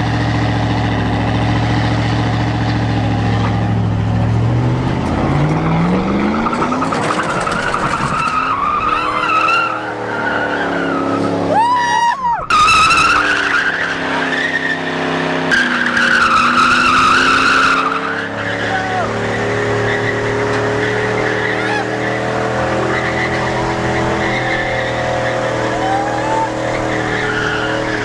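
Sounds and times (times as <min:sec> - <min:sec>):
truck engine revving: 0:00.0 - 0:28.0
tyres squealing: 0:03.2 - 0:28.0.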